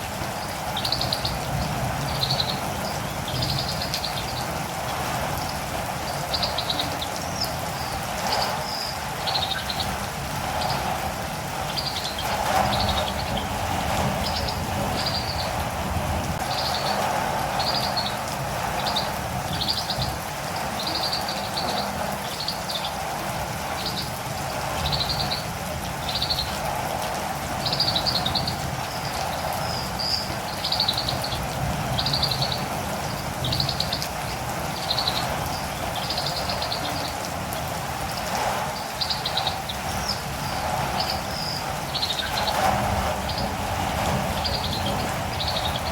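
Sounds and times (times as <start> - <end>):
steady rain: 0.0 - 45.9
bird chirping: 0.4 - 10.0, 11.6 - 15.7, 16.4 - 22.9, 27.6 - 37.2, 38.8 - 45.9.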